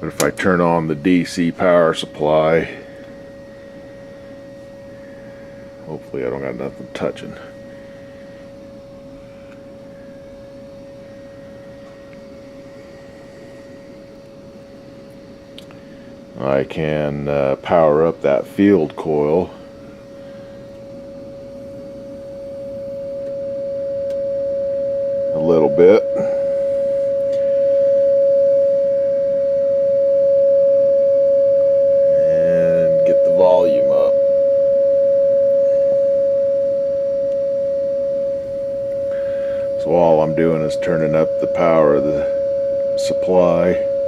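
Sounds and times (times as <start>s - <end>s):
low background hum: 0.0s - 44.0s
steady test tone from speaker: 0.0s - 44.0s.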